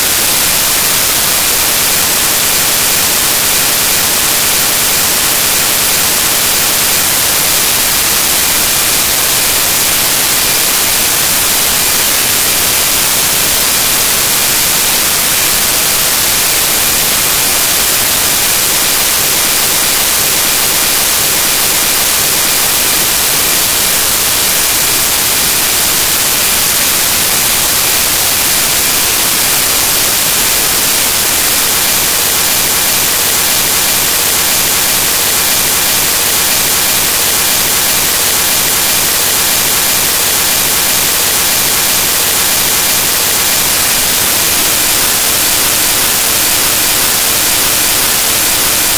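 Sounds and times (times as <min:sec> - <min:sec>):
static hiss: 0:00.0 - 0:48.9.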